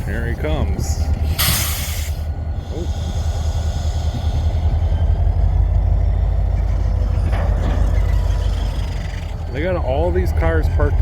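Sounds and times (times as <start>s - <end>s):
engine deep low rumble: 0.0s - 11.0s.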